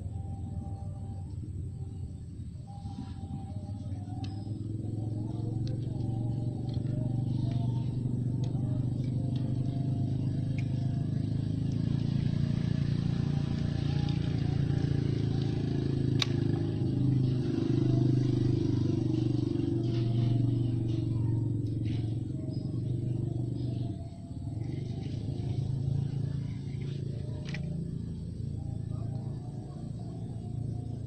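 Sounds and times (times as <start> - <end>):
engine running with low hum: 0.0 - 31.0.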